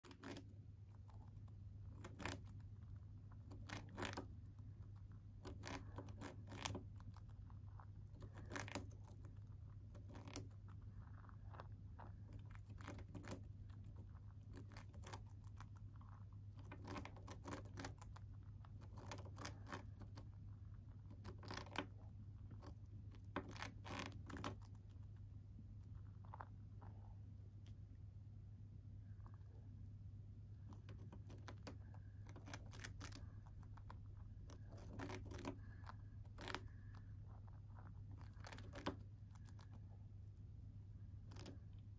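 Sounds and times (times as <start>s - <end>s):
hamster gnawing food: 0.0s - 41.9s
steady low hum: 0.0s - 41.9s.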